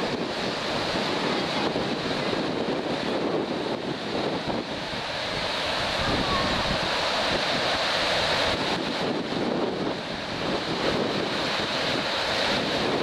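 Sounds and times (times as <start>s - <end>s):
choppy waves: 0.0s - 13.0s
wind buffeting microphone: 0.0s - 13.0s.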